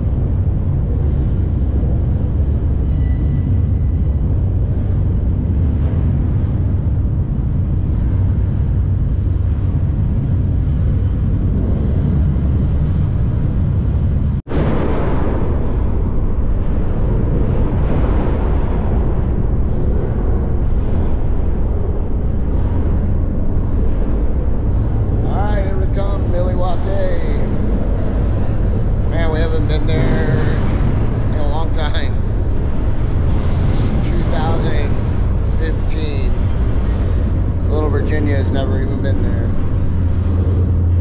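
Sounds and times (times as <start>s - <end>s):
train rumbling and rattling: 0.0s - 41.0s.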